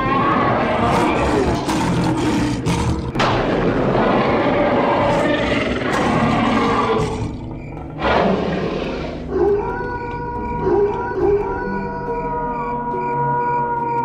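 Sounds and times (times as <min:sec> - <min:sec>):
animatronic werewolf roaring: 0:00.0 - 0:12.9
steady music tones: 0:00.0 - 0:14.0.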